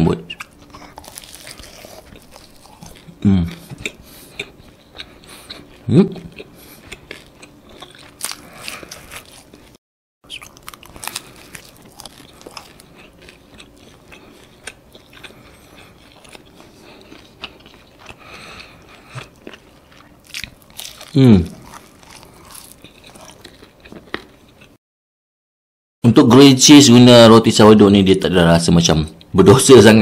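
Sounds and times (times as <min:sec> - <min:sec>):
person chewing crunchy toast: 0:00.3 - 0:24.8.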